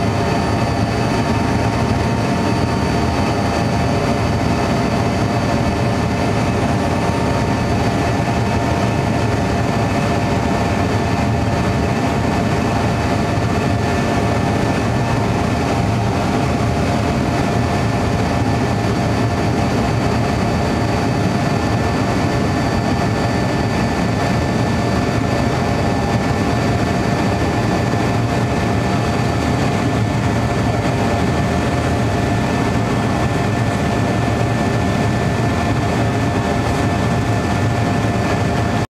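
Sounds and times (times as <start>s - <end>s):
steady whining tones: 0.0s - 38.8s
airflow rush: 0.0s - 38.9s
jet engines at high power: 0.0s - 38.9s.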